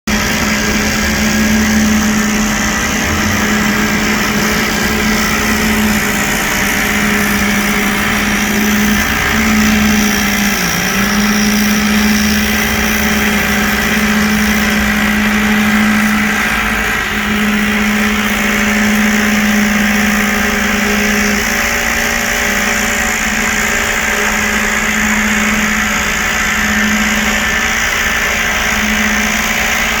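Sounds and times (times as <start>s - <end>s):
machinery engine droning: 0.1s - 30.0s.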